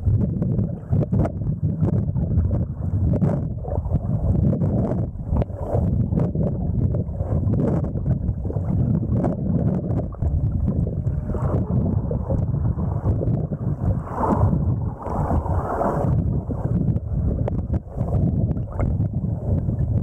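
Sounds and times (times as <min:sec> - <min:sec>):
muffled underwater rumbling: 0:00.0 - 0:20.0.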